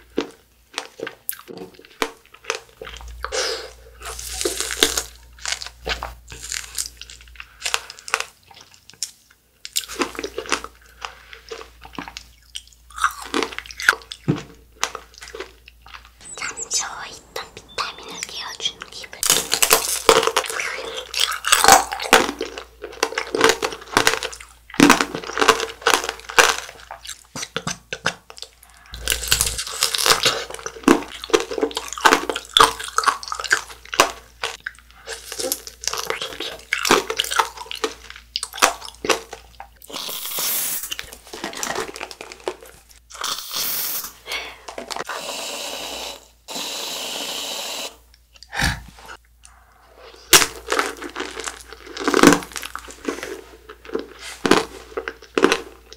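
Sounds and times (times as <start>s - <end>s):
crunchy chewing of strawberries: 0.0s - 43.6s, 48.4s - 55.9s.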